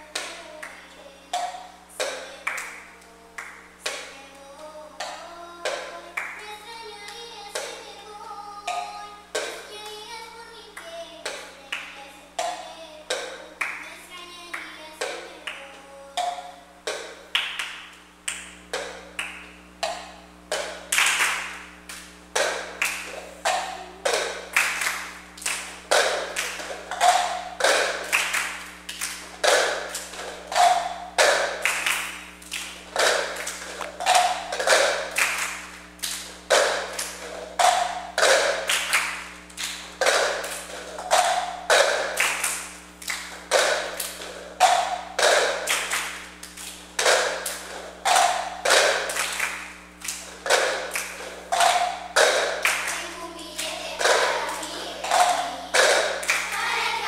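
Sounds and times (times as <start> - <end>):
hand claps: 0.0 - 4.2, 5.0 - 8.0, 10.8 - 57.0
plastic cups tapped on tiled floor: 0.1 - 2.8, 5.0 - 6.4, 11.2 - 13.8, 16.2 - 21.6, 22.3 - 53.0, 53.6 - 57.0.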